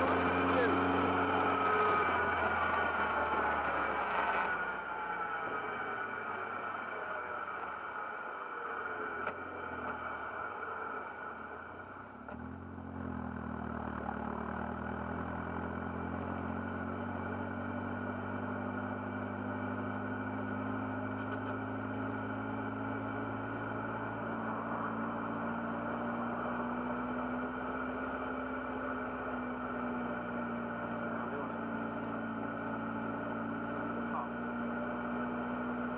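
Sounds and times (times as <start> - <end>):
car engine droning while driving: 0.0 - 35.9.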